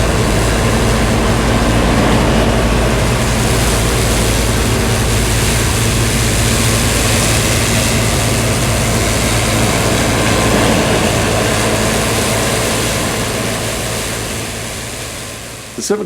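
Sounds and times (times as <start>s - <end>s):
combine harvester running under load: 0.0s - 16.0s.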